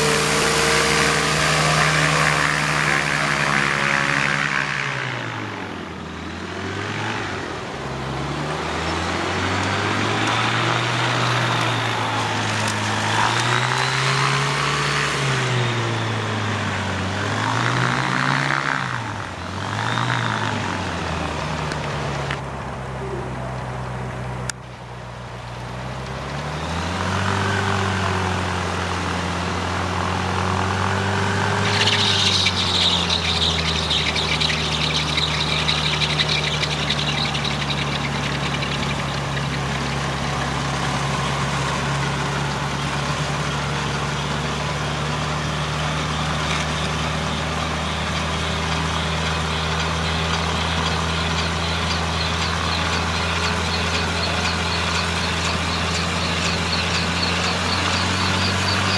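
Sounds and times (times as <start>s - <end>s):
gyrocopter engine running: 0.0s - 19.5s, 27.0s - 58.9s.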